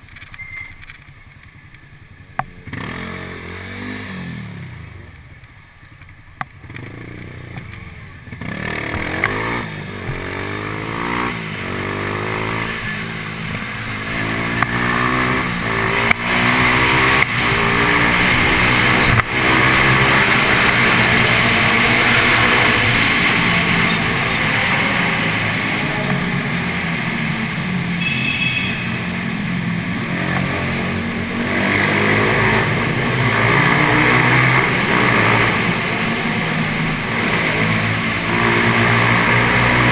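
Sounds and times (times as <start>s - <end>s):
motorcycle engine accelerating: 2.4s - 5.1s, 6.6s - 39.9s.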